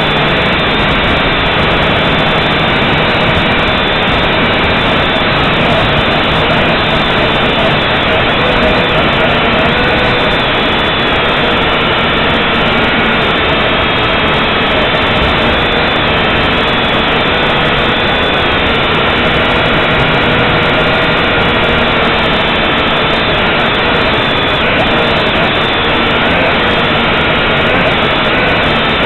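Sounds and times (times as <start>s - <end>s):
drone propellers whirring: 0.0s - 29.0s.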